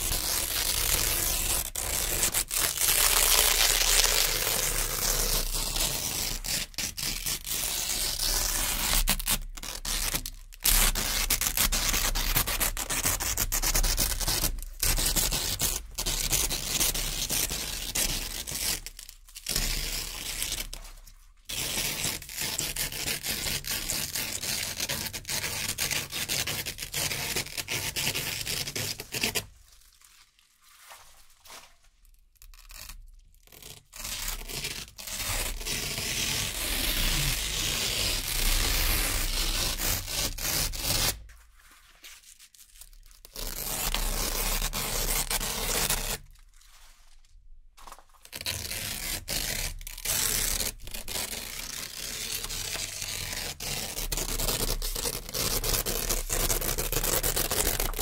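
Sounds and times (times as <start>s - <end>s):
velcro strips ripping: 0.0s - 58.0s.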